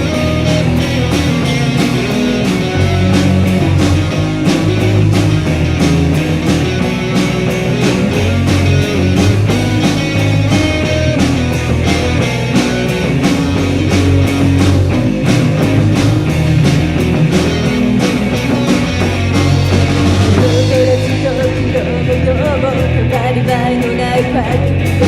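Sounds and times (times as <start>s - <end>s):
drum beat: 0.0s - 22.2s
bass guitar: 0.0s - 25.0s
electric guitar: 0.0s - 25.0s.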